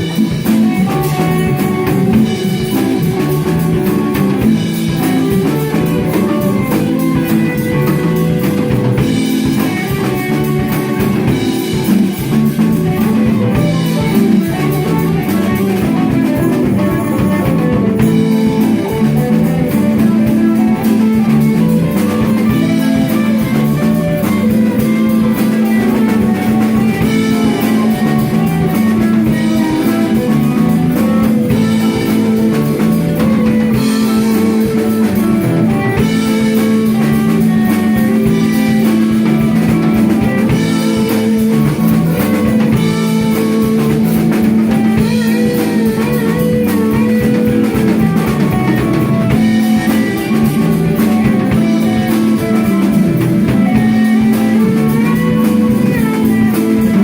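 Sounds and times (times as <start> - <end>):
drum kit: 0.0 - 57.0
guitar melody: 0.0 - 57.0.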